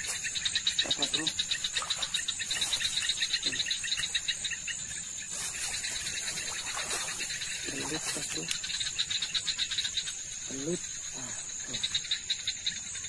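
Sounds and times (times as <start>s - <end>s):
high-pitched insect whine: 0.0s - 13.0s
pulsing insect trill: 0.0s - 13.0s.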